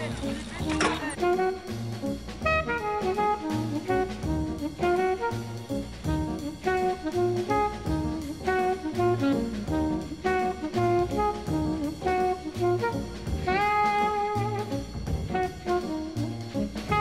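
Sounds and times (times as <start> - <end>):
drum kit beat: 0.0 - 17.0
jazz horn melody: 0.0 - 17.0.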